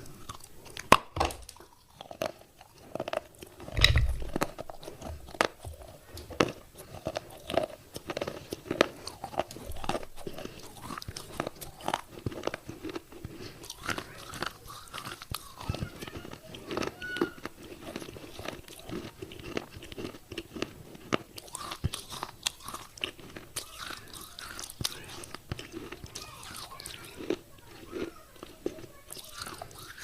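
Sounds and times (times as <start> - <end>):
clay pieces crunching while chewed: 0.0 - 30.0.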